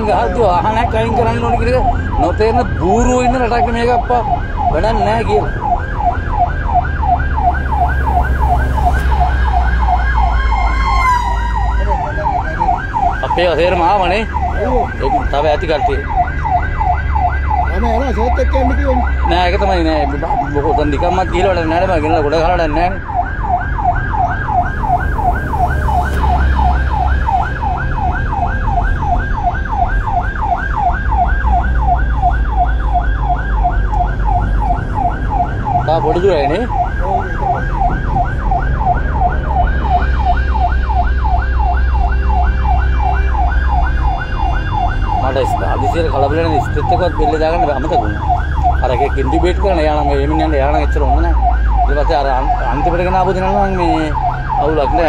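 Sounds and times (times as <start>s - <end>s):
ambulance siren yelping: 0.0s - 55.0s
vehicle engine rumble and road noise: 0.0s - 55.0s.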